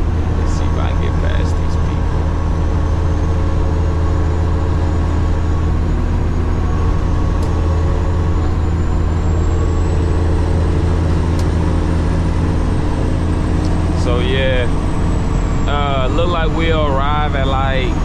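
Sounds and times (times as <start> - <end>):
road noise: 0.0 - 18.0
truck diesel engine drone: 0.0 - 18.0.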